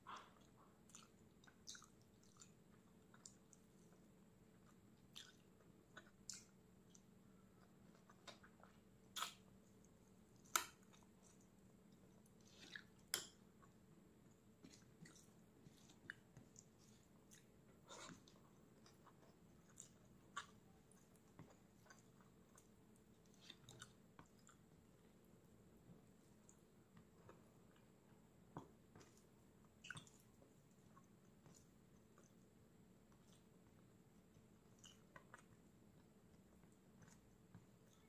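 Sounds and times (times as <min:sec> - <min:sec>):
chewing with wet clicks: 0:00.1 - 0:24.8, 0:28.6 - 0:32.5, 0:33.1 - 0:38.0.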